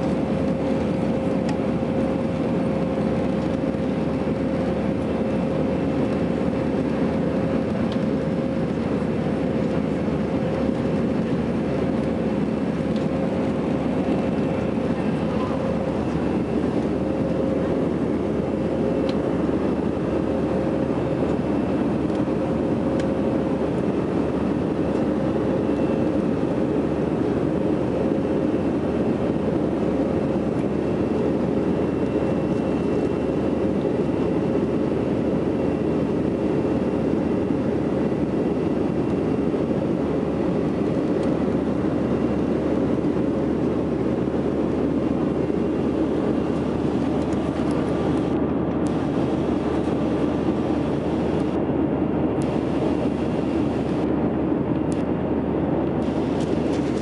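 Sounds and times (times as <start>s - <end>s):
jet engine and airflow rush: 0.0s - 57.0s
steady hum tone: 10.0s - 57.0s.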